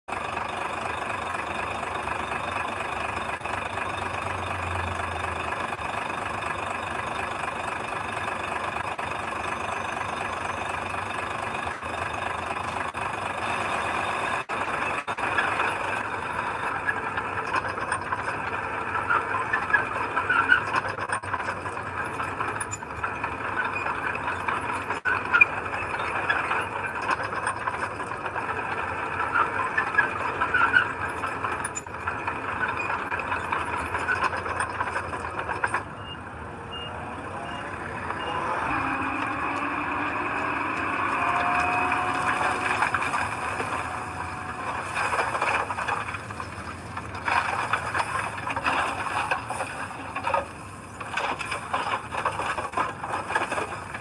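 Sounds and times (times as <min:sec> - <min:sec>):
heavy machinery diesel engine: 0:00.0 - 0:54.0
metal clanks and squeaks: 0:00.1 - 0:54.0.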